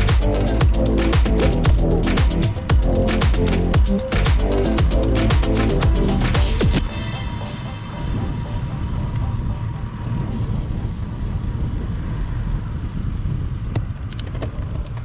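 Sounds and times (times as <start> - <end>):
bicycle road noise: 0.0 - 6.4, 8.0 - 15.0
wind rumble: 0.0 - 15.0.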